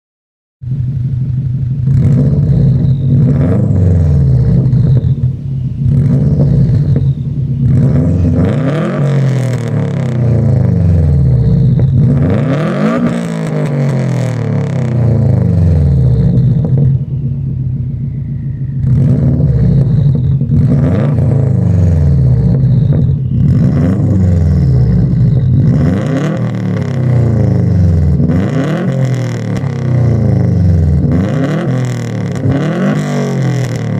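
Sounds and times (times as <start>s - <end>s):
loud car engine revving: 0.7s - 33.9s.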